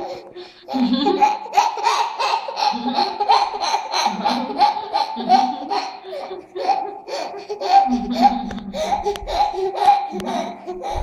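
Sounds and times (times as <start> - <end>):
toddler laughing: 0.0 - 11.0.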